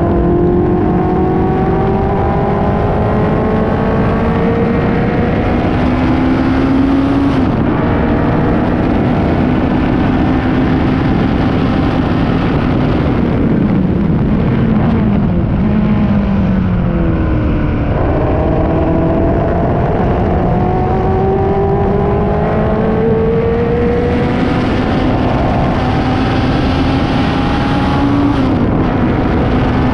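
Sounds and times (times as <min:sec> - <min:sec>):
race car engine: 0:00.0 - 0:29.9
wind and road rush: 0:00.0 - 0:29.9.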